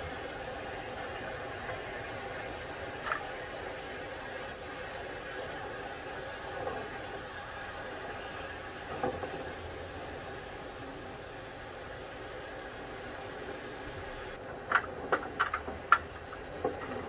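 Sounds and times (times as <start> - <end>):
duct-cleaning equipment hissing: 0.0 - 17.0.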